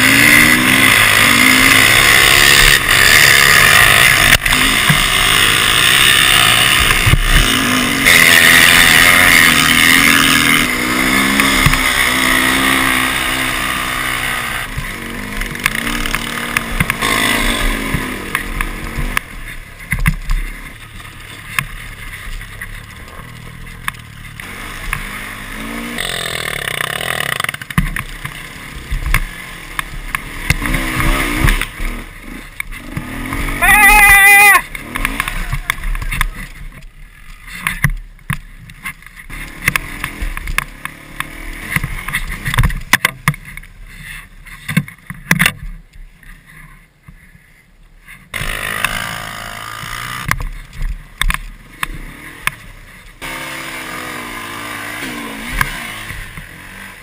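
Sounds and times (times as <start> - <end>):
motorcycle engine revving: 0.0 - 45.5, 48.3 - 57.0.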